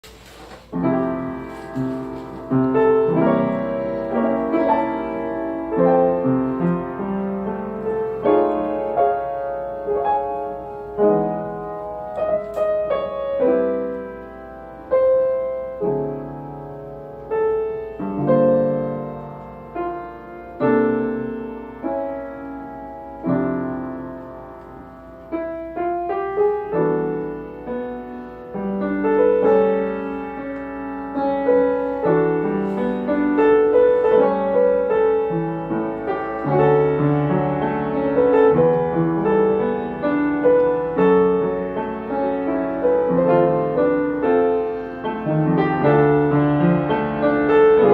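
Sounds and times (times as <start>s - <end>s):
slow jazz piano ballad: 0.0s - 47.9s.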